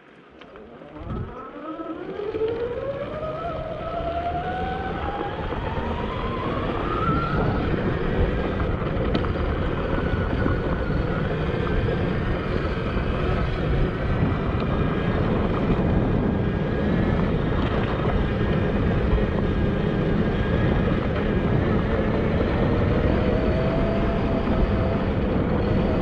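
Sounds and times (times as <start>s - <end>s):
electric motorbike motor whining: 0.0s - 26.0s
wind rush on microphone: 1.0s - 1.4s, 2.0s - 26.0s.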